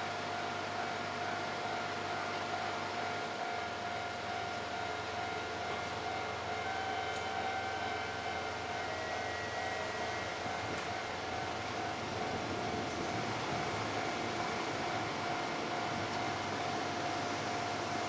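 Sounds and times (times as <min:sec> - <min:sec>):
electric train whine: 0:00.0 - 0:18.0.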